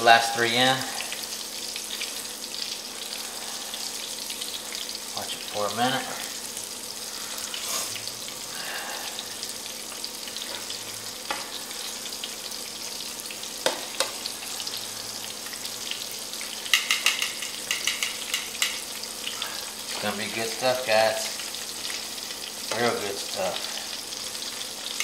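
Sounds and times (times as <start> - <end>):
shrimp deep-frying in oil: 0.0 - 25.0.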